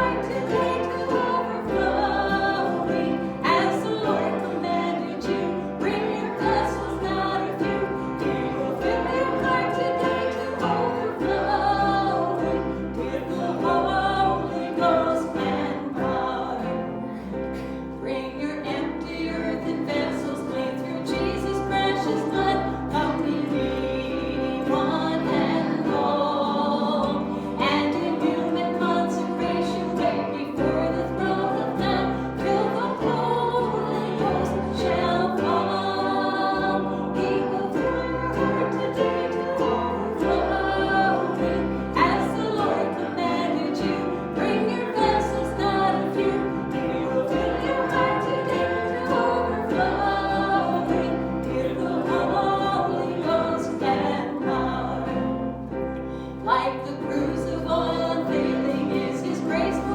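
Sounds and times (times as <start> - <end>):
group singing worship song: 0.0 - 59.9
instrumental accompaniment: 0.0 - 59.9.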